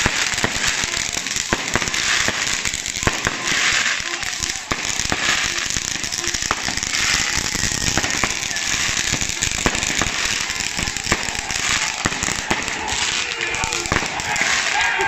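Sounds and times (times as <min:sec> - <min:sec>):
crowd noise and voices: 0:00.0 - 0:15.0
firecrackers banging: 0:00.0 - 0:15.0.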